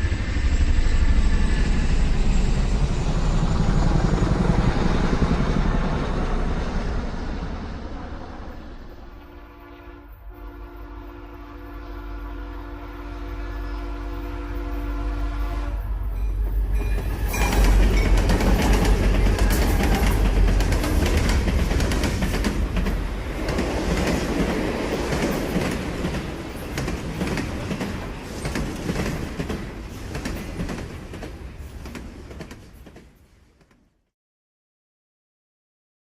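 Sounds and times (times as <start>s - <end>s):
train passing: 0.0s - 33.9s.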